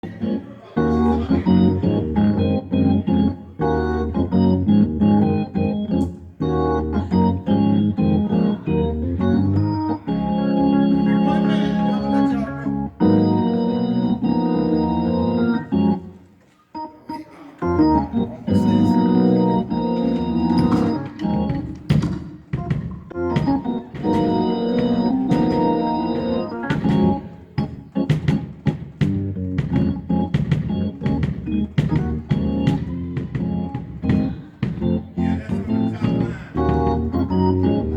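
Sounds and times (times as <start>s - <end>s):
organ playing chords: 0.0s - 37.9s.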